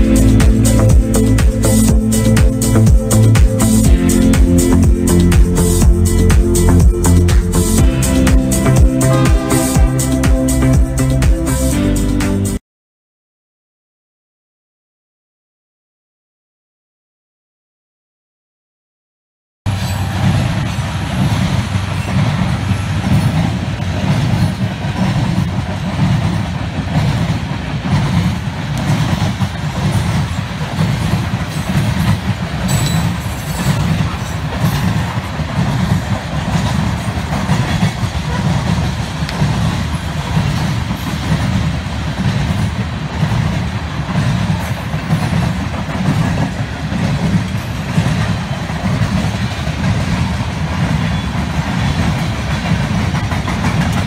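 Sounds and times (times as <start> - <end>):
train wheels rumbling on rail: 0.0 - 12.6, 19.7 - 54.0.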